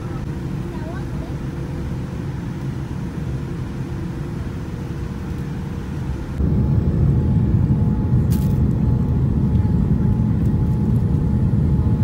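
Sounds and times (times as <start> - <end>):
low rumble of jet engines: 0.0 - 12.0.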